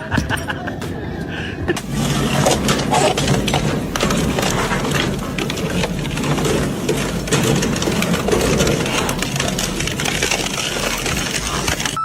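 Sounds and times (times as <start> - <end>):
clattering clicks and knocks: 1.8 - 12.0
machinery running: 1.8 - 12.0.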